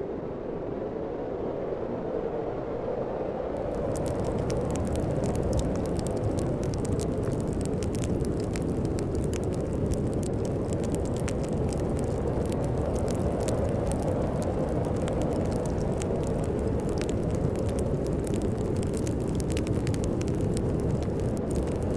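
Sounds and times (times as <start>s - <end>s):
low wind of a snowstorm: 0.0s - 21.9s
wood fire crackling: 3.6s - 21.9s.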